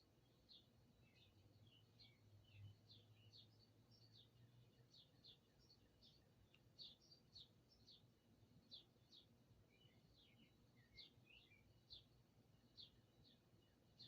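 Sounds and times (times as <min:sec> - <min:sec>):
faint low hum: 0:00.0 - 0:14.0
lower bird chirps: 0:00.0 - 0:14.0
songbirds chirping: 0:00.0 - 0:14.0.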